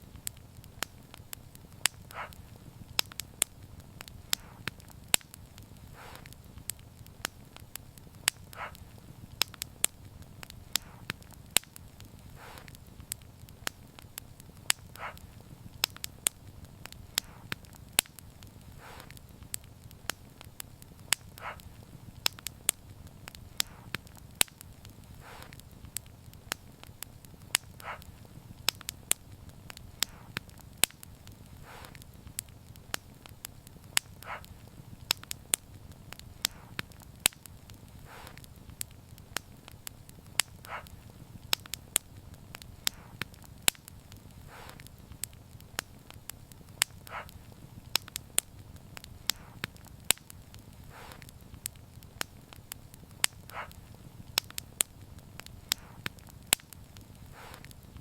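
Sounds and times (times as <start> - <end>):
low rumble of flame: 0.0 - 58.0
wood fire crackling: 0.0 - 58.0.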